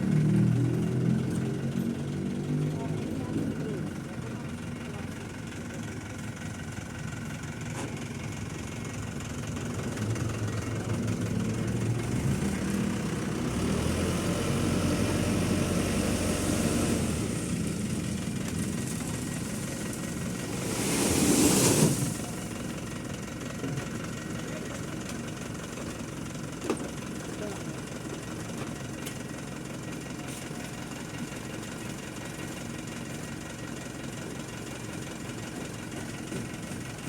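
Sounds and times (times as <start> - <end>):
heavy vehicle engine rumbling: 0.0 - 37.0.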